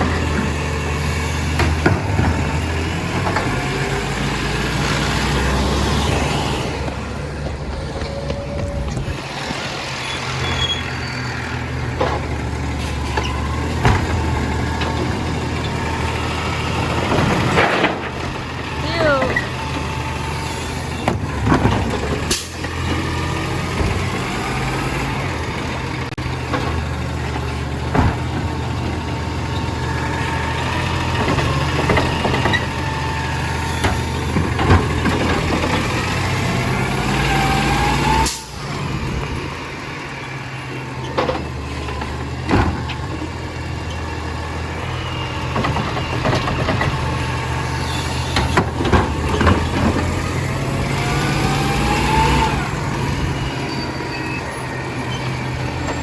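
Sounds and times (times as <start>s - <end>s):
garbage truck engine running: 0.0s - 56.0s.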